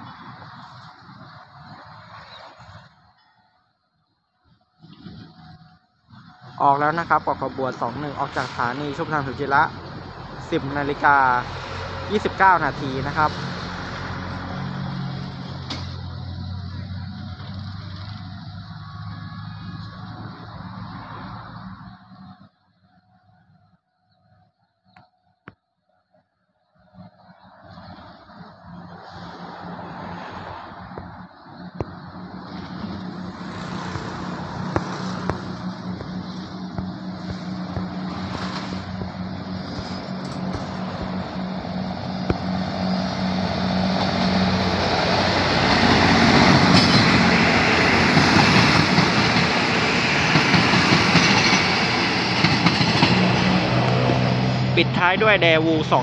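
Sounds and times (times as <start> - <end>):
diesel engine humming: 4.5 - 23.5, 26.9 - 56.0.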